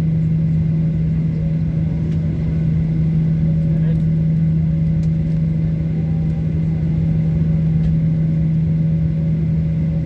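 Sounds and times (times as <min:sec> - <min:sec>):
airplane cabin engine drone: 0:00.0 - 0:10.0.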